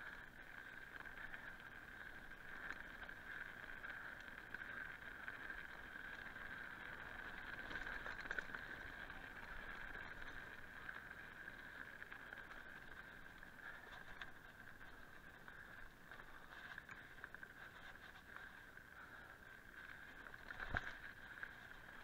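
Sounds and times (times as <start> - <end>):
bike tyres buzzing over dirt: 0.0 - 22.0.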